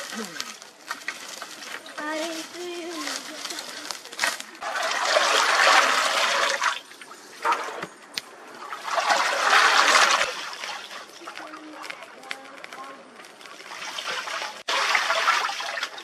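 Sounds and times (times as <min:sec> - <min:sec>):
liquid sloshing in a cauldron: 0:03.0 - 0:16.0.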